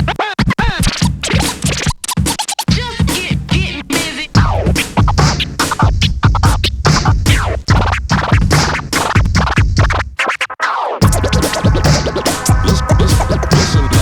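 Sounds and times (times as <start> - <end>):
hip-hop music with heavy beat: 0.0 - 14.0
turntable scratching: 0.0 - 14.0.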